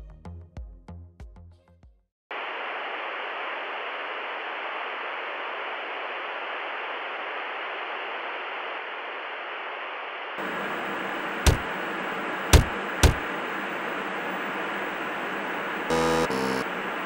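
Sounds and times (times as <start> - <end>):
white noise machine hissing: 2.3 - 17.0.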